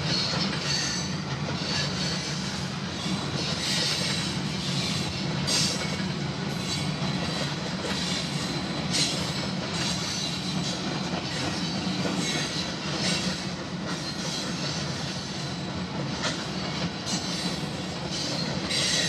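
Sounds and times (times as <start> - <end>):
train cars rolling past: 0.0 - 19.0.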